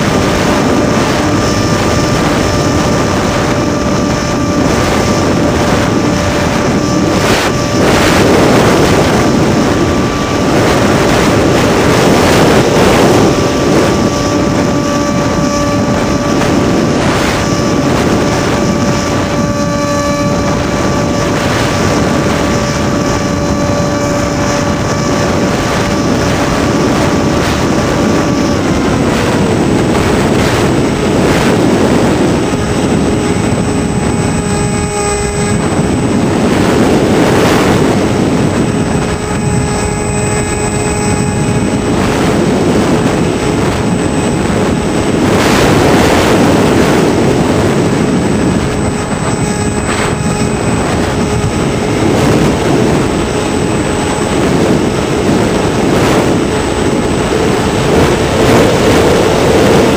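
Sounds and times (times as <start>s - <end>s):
electric motor and propeller whine: 0.0s - 59.9s
wind rushing on microphone: 0.0s - 59.9s.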